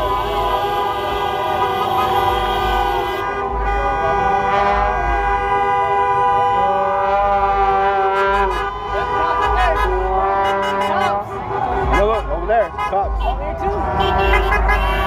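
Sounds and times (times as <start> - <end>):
car horns honking: 0.0 - 15.0.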